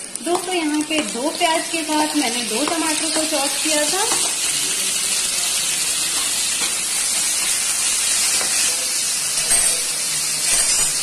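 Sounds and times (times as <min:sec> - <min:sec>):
onions and tomatoes sizzling in oil: 0:00.0 - 0:11.0.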